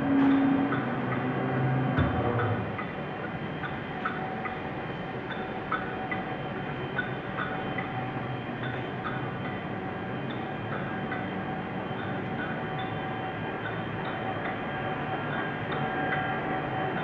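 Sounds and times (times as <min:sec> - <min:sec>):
lathe humming with faint whine: 0:00.0 - 0:17.0.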